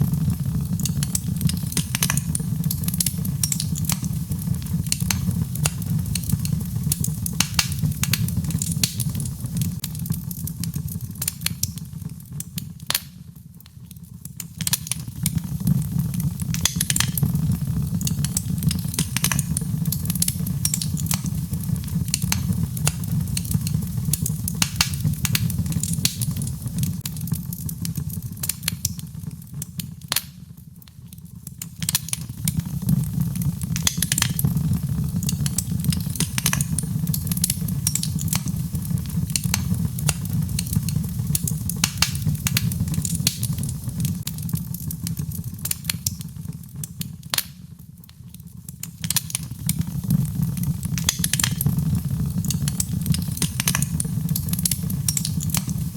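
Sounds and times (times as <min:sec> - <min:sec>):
fire crackling and popping: 0:00.0 - 0:55.9
low rumble of flame: 0:00.0 - 0:55.9.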